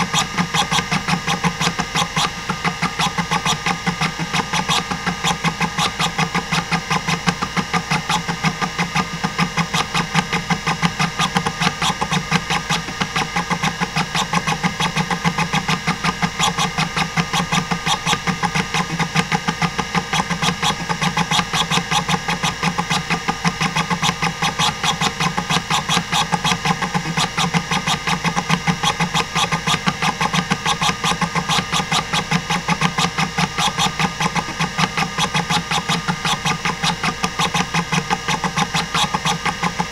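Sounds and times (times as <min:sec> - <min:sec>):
hard drive platters spinning: 0:00.0 - 0:39.9
hard drive head clicks: 0:00.1 - 0:39.9.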